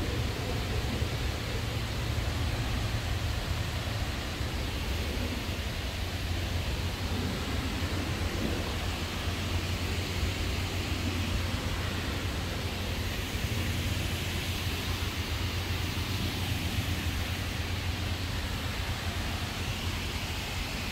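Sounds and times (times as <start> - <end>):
constant low hum: 0.0 - 20.9
even hiss: 0.0 - 20.9.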